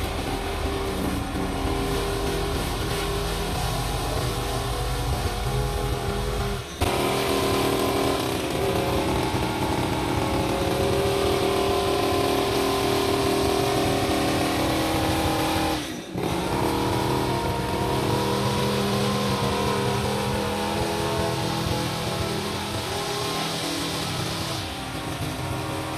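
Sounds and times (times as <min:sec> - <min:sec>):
brush cutter engine running: 0:00.0 - 0:25.9.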